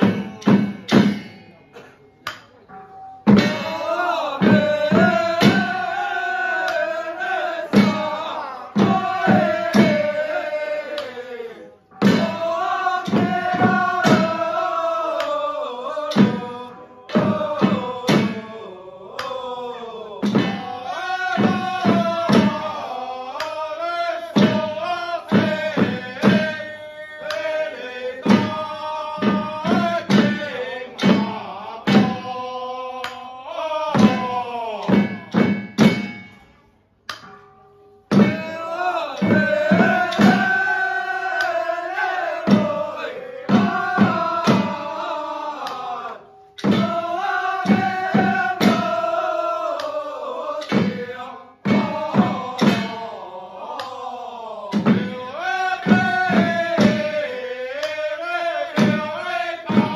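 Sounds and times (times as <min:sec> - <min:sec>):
hand drum beats: 0:00.0 - 0:01.6, 0:02.2 - 0:06.9, 0:07.6 - 0:11.3, 0:11.9 - 0:15.5, 0:16.1 - 0:18.6, 0:20.2 - 0:23.7, 0:24.3 - 0:33.3, 0:33.9 - 0:50.0, 0:50.6 - 0:54.0, 0:54.7 - 0:59.9
group chanting in unison: 0:03.3 - 0:36.3, 0:38.1 - 0:59.9.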